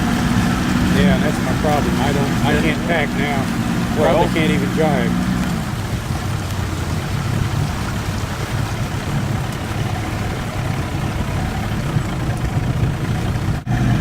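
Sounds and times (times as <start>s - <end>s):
boat engine idling: 0.0s - 14.0s
water noise: 0.0s - 14.0s
wind: 0.0s - 14.0s.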